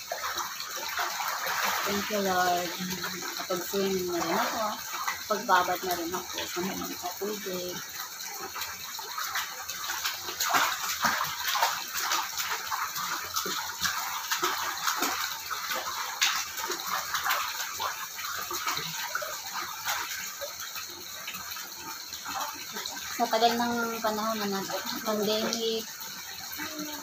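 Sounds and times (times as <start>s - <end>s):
water lapping and splashing in pool: 0.0s - 27.0s.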